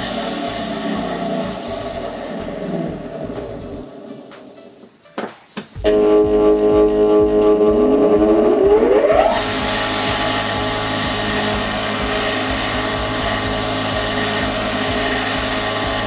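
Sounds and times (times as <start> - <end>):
electric motor whining and humming: 0.0 - 3.8, 5.8 - 16.0.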